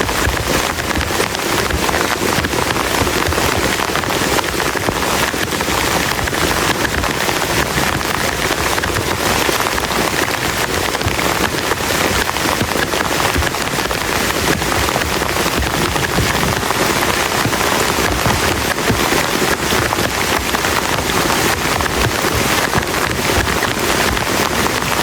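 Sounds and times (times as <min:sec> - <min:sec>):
heavy rain on plastic tarp: 0:00.0 - 0:25.0.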